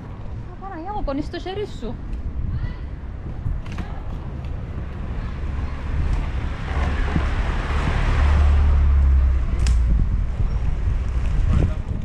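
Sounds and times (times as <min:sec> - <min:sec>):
skate wheels rolling on asphalt: 0:00.0 - 0:12.0
wind buffeting microphone: 0:00.0 - 0:12.0.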